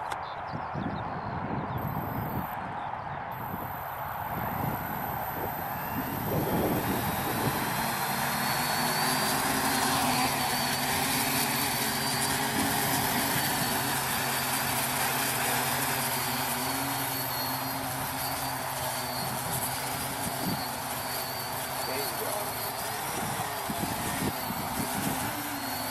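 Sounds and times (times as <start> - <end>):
quadcopter motors whining: 0.0 - 25.9.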